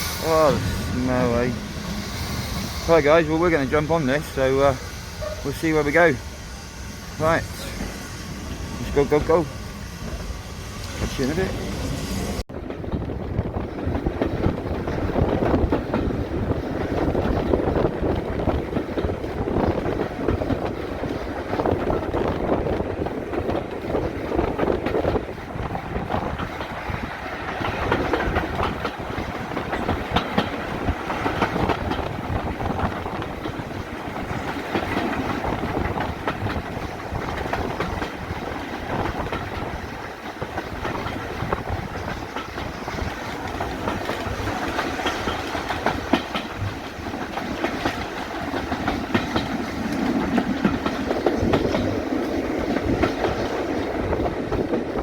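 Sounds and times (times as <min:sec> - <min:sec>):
train wheels rolling on track: 0:00.0 - 0:55.0
clickety-clack over rail joints: 0:00.2 - 0:06.3, 0:07.2 - 0:55.0.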